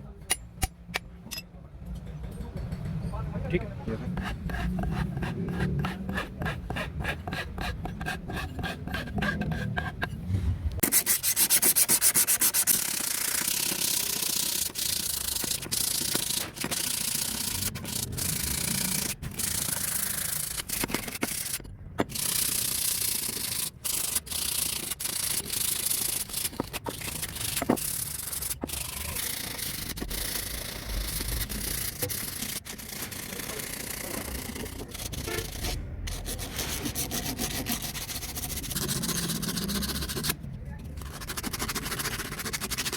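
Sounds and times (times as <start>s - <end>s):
sanding strokes: 4.0s - 10.2s, 10.8s - 42.9s.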